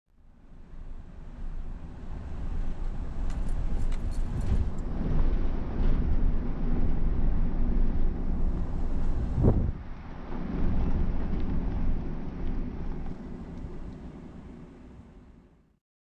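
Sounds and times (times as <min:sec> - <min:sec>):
car engine and tyre rumble: 0:00.2 - 0:15.6.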